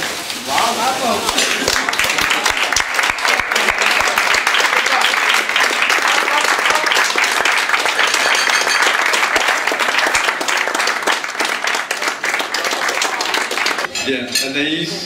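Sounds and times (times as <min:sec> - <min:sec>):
crowd applauding: 0:01.2 - 0:13.9.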